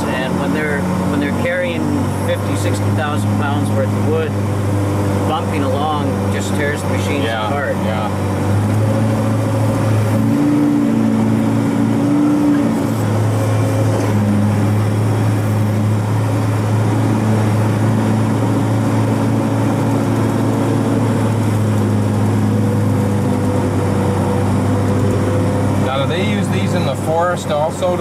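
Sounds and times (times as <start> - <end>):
diesel engine drone from cab: 0.0 - 28.0
shifting tones: 0.0 - 28.0.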